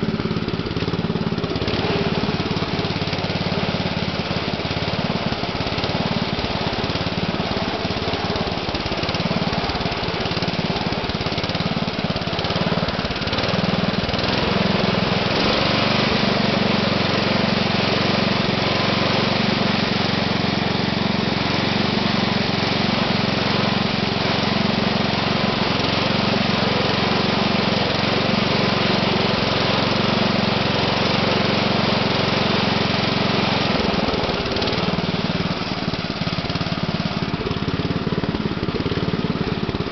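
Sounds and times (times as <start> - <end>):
small tractor engine running: 0.0 - 39.9.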